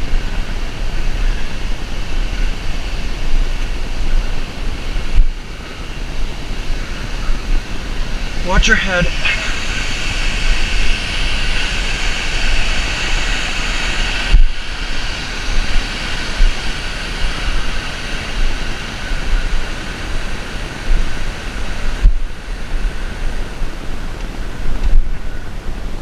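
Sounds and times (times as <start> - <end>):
waterfall roaring: 0.0 - 26.0
wind rumble on microphone: 0.0 - 26.0.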